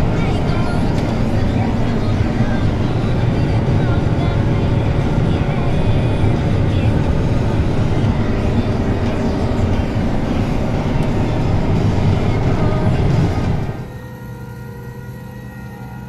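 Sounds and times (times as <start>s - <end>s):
combine harvester rumbling: 0.0s - 16.0s.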